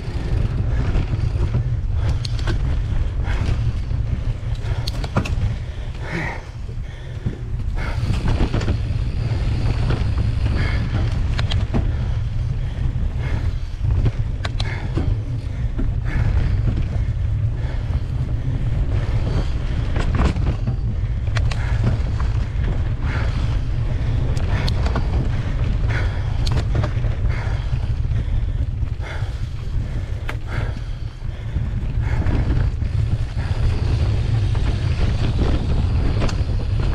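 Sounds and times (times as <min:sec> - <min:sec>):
bike clicks and rattles: 0:00.0 - 0:36.9
tyre noise on dirt trail: 0:00.0 - 0:36.9
wind buffeting microphone: 0:00.0 - 0:36.9.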